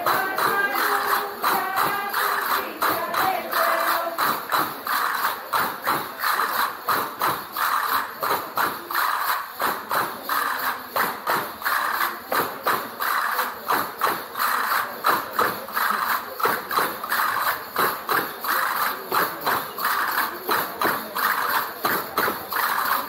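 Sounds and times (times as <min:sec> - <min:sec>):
hand percussion beat with rattle: 0:00.0 - 0:23.0.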